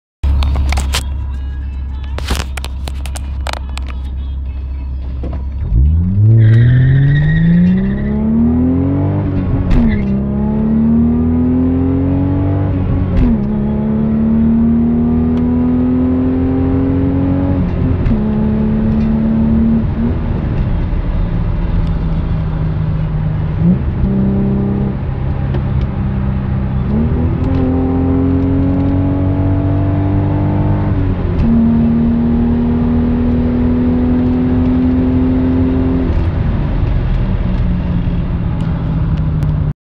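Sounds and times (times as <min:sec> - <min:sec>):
car engine from inside cabin: 0:00.2 - 0:39.7
car accelerating hard: 0:05.6 - 0:39.7.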